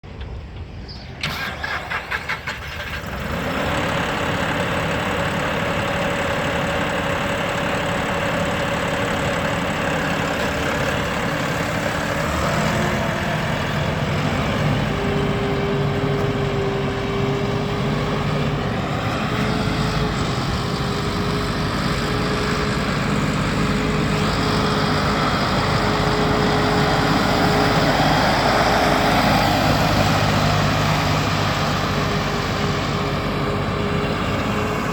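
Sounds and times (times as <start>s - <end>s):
diesel engine cranking: 0.1s - 34.9s
tractor engine idling: 1.2s - 34.9s.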